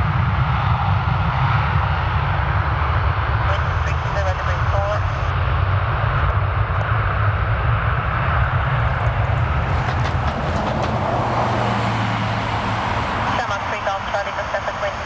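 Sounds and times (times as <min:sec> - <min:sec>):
loud jet engine rumble: 0:00.0 - 0:15.0.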